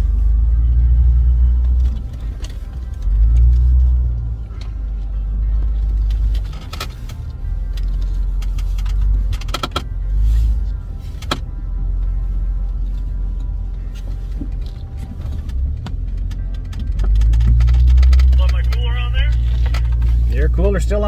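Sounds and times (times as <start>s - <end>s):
engine and drivetrain rumble: 0.0s - 21.0s.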